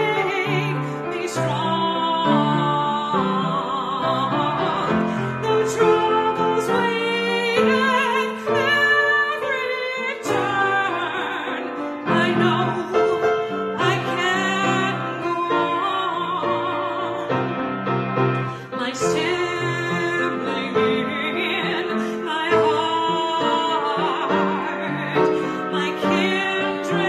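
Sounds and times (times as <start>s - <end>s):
person singing a hymn with vibrato: 0.0s - 27.0s
piano accompaniment: 0.0s - 27.0s.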